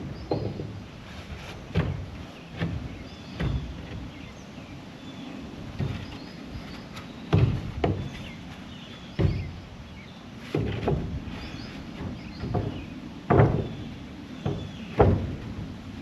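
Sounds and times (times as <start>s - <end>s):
irregular knocks and thuds: 0.0s - 4.3s, 5.6s - 9.7s, 10.4s - 15.9s.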